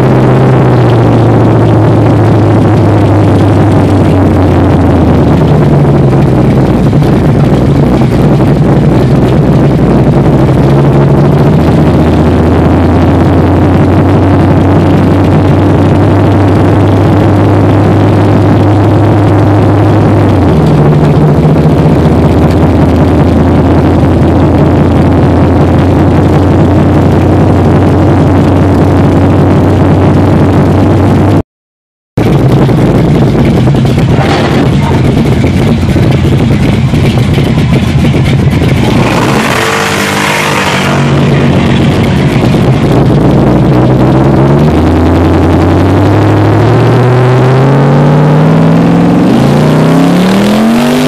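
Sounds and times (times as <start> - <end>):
car engine running loud: 0.0 - 31.4, 32.2 - 51.0.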